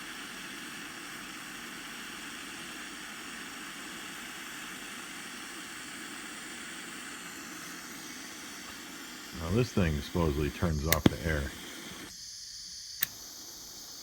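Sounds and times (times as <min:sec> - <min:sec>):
soldering torch hissing: 0:00.0 - 0:14.0.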